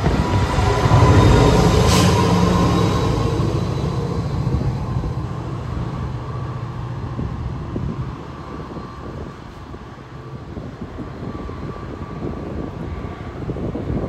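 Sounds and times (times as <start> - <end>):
diesel locomotive engine drone: 0.0 - 14.0
train rolling noise: 0.0 - 14.0.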